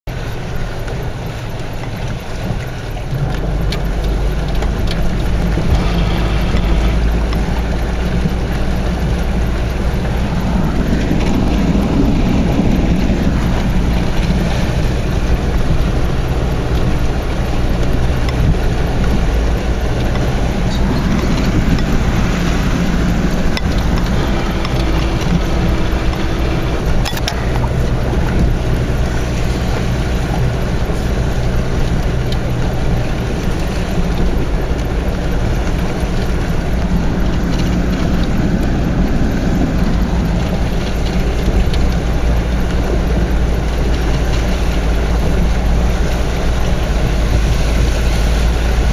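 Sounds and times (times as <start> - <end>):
diesel engine running under load: 0.0 - 48.9
water washing along car body: 0.1 - 48.9.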